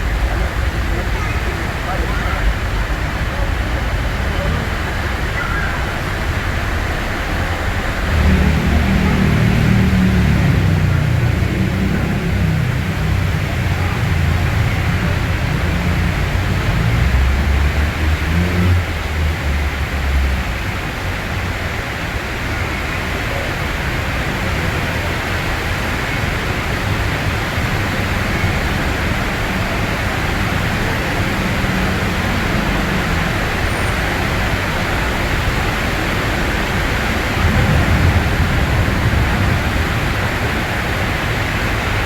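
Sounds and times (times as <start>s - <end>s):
heavy rain hissing: 0.0s - 42.0s
road traffic: 0.0s - 42.0s
vehicle engine rumble: 0.0s - 42.0s.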